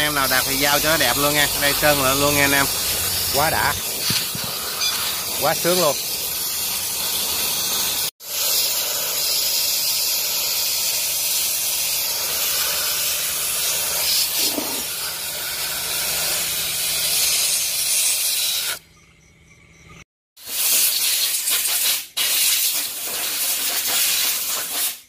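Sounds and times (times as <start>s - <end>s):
sandblasting hiss: 0.0s - 18.8s, 20.4s - 25.0s.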